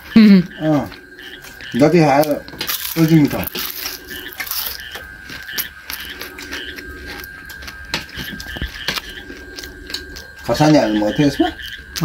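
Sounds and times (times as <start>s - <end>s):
person chewing: 0.0s - 10.5s
steady high tone: 0.0s - 12.0s.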